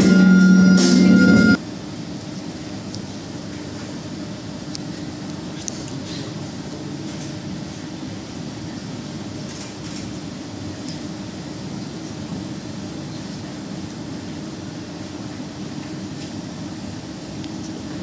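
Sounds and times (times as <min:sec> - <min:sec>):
low even hum: 0:00.0 - 0:18.0.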